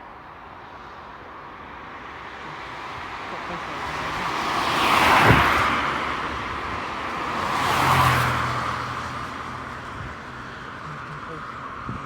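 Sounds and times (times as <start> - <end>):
road vehicles passing: 0.1 - 12.0.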